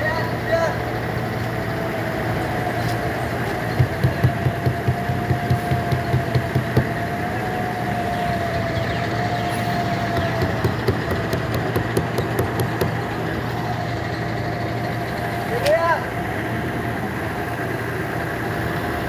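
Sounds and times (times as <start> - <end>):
bus diesel engine chugging: 0.0 - 19.0.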